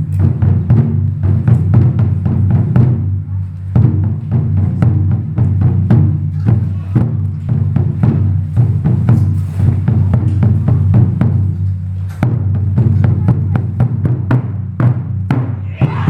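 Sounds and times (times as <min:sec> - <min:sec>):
taiko drum ensemble playing: 0:00.0 - 0:16.0.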